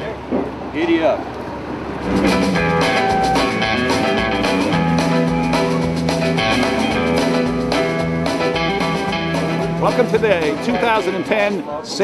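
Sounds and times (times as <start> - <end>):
guitar: 2.0 - 12.0
drum kit steady beat: 2.1 - 12.0.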